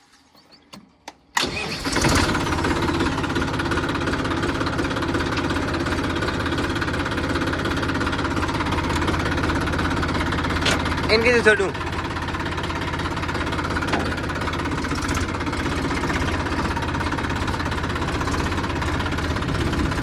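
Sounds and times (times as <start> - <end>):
tractor diesel engine running: 1.4 - 20.0.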